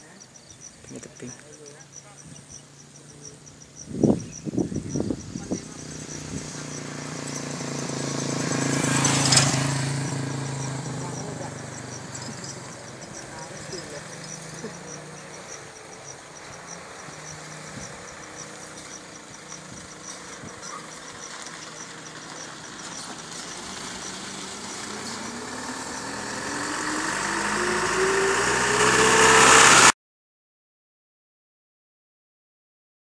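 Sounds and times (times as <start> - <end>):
insects chirping: 0.0 - 29.5
motorcycle engine: 0.0 - 30.0.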